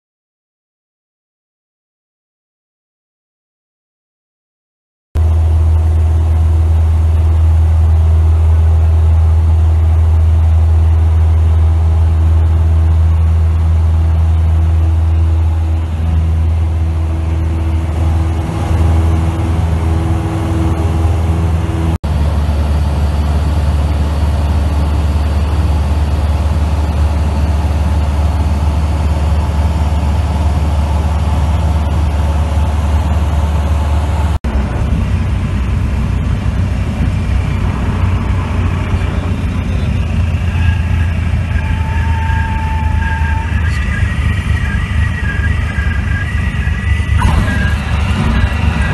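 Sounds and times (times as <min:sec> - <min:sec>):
light aircraft engine droning: 0:05.2 - 0:48.9.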